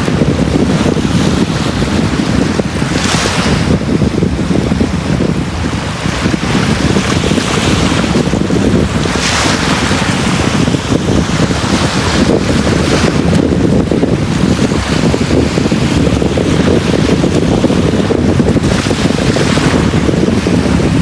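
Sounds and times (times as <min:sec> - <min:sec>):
sea waves breaking on beach: 0:00.0 - 0:21.0.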